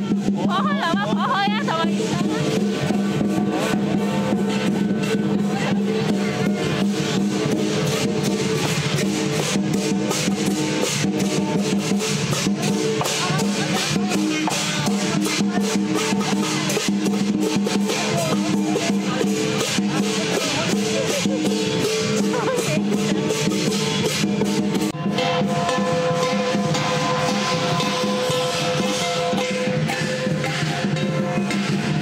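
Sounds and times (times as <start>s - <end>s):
big drum beating: 0.0s - 32.0s
crashing cymbals: 1.5s - 32.0s
ringing gongs: 1.9s - 32.0s.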